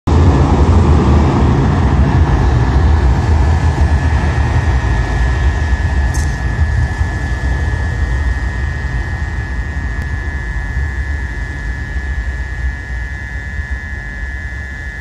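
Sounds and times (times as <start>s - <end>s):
aircraft engines rumbling: 0.1s - 15.0s
high engine whine: 0.1s - 15.0s.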